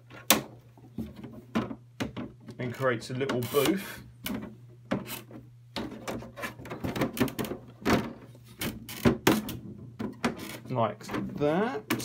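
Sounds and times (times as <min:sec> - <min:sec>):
plastic panels knocking and scraping: 0:00.0 - 0:12.0.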